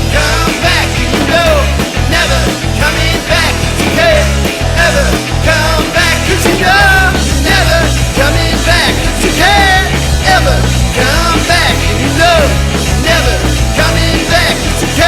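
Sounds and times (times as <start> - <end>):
rock music with sung vocal: 0.0 - 15.0.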